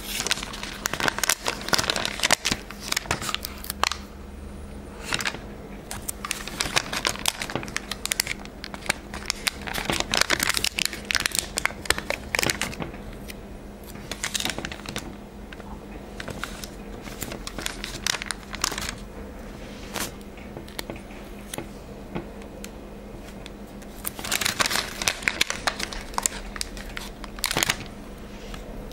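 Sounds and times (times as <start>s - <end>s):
stickers crinkling and crackling: 0.0s - 4.1s, 4.9s - 28.9s
faint steady hum: 0.0s - 28.9s.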